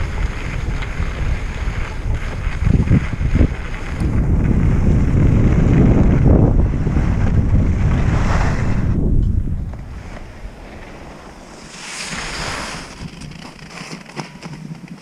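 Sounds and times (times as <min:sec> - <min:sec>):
wind buffeting microphone: 0:00.0 - 0:13.8
skis sliding on packed snow: 0:00.0 - 0:15.0.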